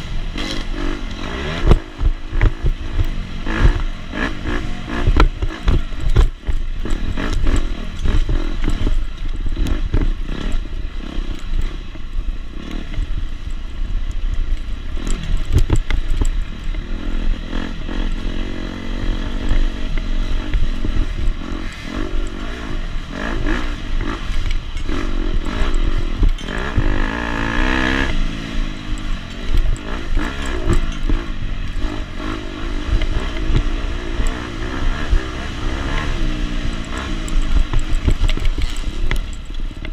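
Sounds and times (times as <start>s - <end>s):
bike clattering over rough ground: 0.0s - 39.9s
dirt bike engine revving: 0.0s - 39.9s.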